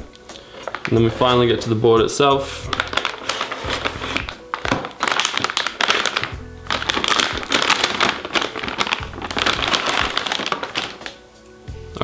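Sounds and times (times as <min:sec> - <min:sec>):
background music with steady beat: 0:00.0 - 0:12.0
plastic bag crinkling: 0:00.4 - 0:01.7, 0:02.7 - 0:11.2.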